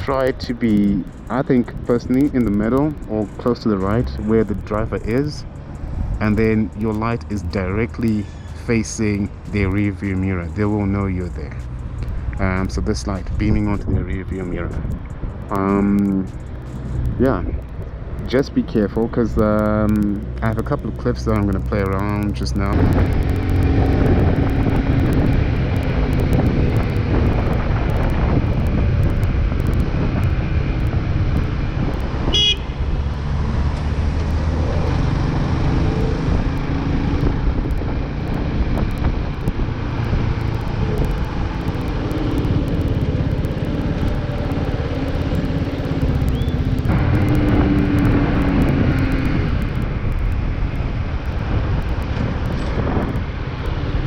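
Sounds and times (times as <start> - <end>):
motorcycle engine: 0.0 - 54.0
wind rumble: 0.0 - 54.0.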